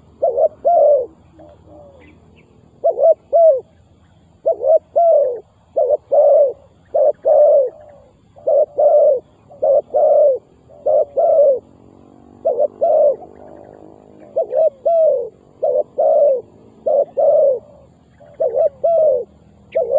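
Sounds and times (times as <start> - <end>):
dove cooing: 0.0 - 19.9.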